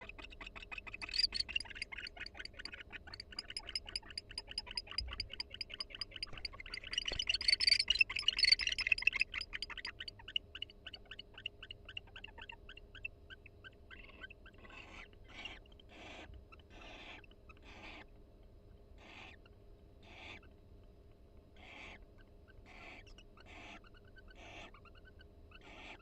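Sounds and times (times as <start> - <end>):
owls ticking calls: 0.0 - 18.0, 20.0 - 20.5, 21.6 - 26.0.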